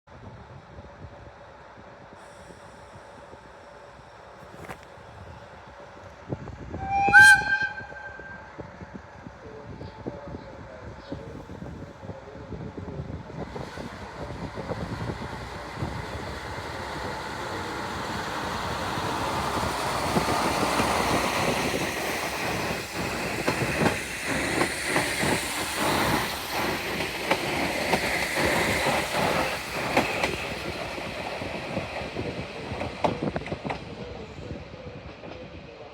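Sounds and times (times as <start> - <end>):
diesel train pulling out: 0.3 - 35.9.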